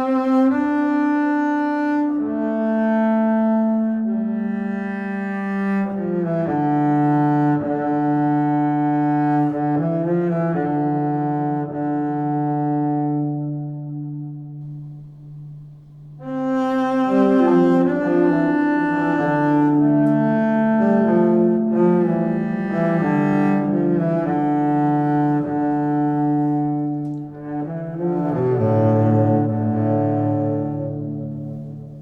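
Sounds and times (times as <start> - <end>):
low bowed strings melody: 0.0 - 32.0.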